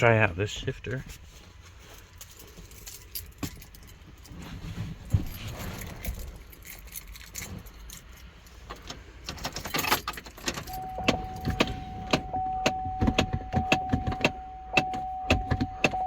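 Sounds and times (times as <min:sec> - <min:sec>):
gear shifter clicks and rattles: 0:02.0 - 0:16.0.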